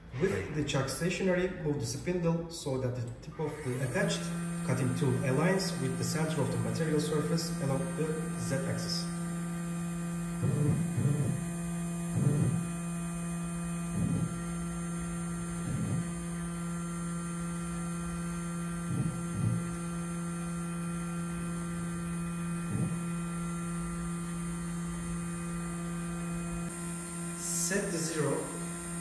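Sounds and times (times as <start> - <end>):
machine electrical hum: 0.0 - 29.0
stepper motors whirring: 3.6 - 29.0.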